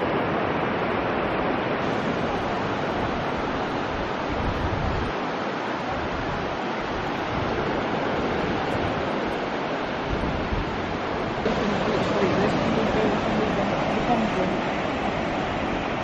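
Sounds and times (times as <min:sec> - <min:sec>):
sea surf on sandy beach: 0:00.0 - 0:16.0
wind buffeting microphone: 0:00.0 - 0:16.0.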